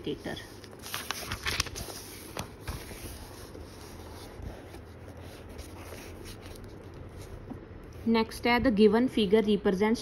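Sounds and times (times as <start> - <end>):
rustling of book pages: 0.0 - 8.1.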